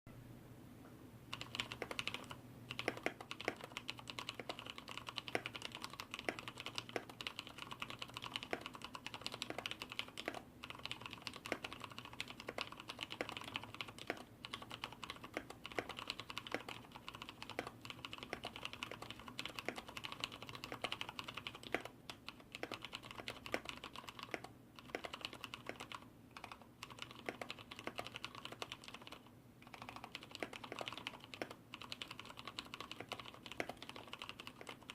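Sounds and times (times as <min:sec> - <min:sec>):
typing on mechanical keyboard: 0:01.3 - 0:34.9.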